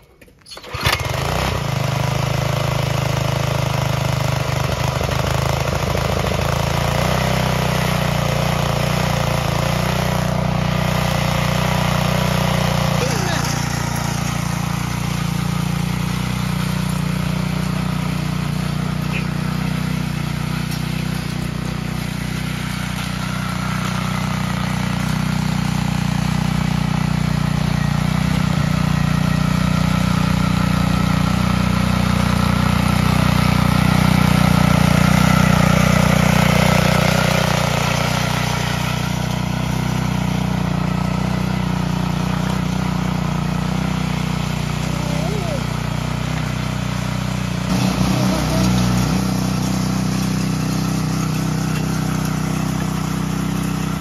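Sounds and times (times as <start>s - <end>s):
cultivator petrol engine running: 0.0s - 54.0s
tines tilling soil: 0.0s - 54.0s.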